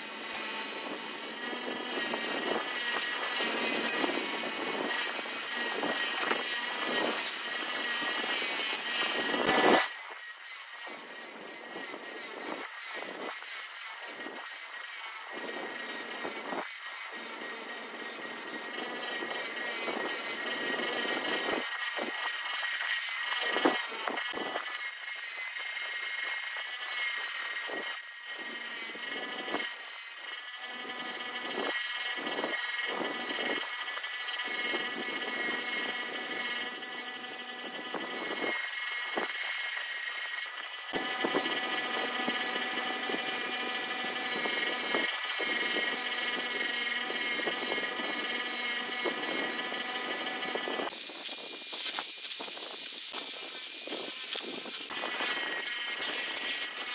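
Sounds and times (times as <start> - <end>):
power tool motor whining: 0.0 - 56.9.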